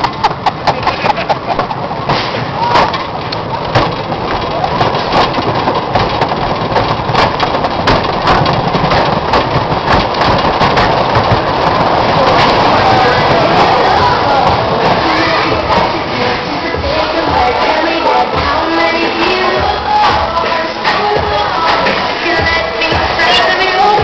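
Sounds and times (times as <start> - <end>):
roller coaster on wooden track: 0.0 - 24.0.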